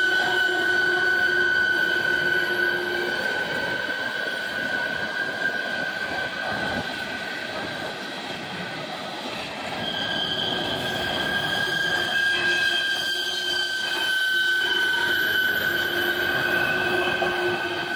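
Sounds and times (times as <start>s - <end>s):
high-pitched wheel squeal: 0.0s - 8.4s, 9.0s - 17.9s
train wheels rumbling on rails: 0.0s - 17.9s.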